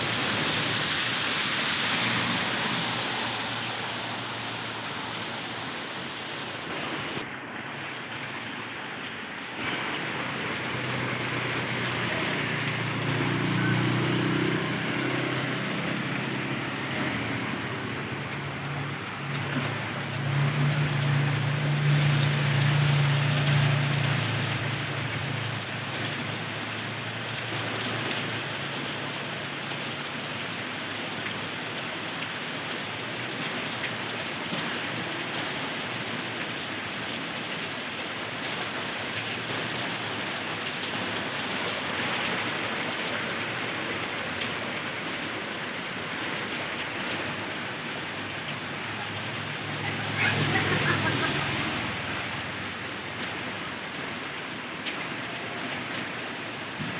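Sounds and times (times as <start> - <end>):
heavy rain on floodwater: 0.0 - 56.9.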